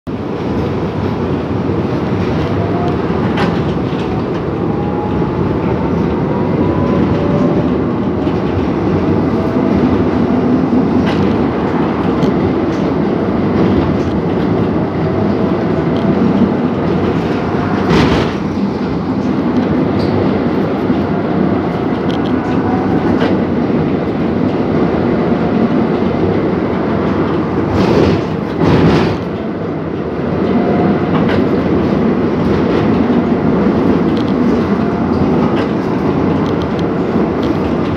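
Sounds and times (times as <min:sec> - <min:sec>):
tram wheels rumbling on rail: 0:00.1 - 0:37.9.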